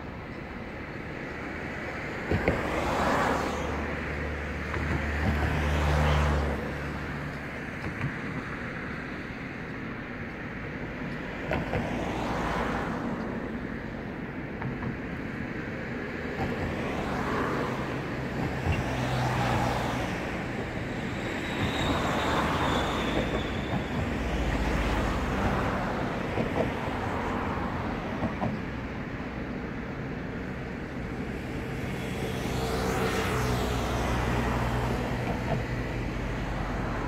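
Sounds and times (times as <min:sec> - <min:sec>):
traffic background: 0:00.0 - 0:37.0
vehicles passing: 0:00.0 - 0:37.0.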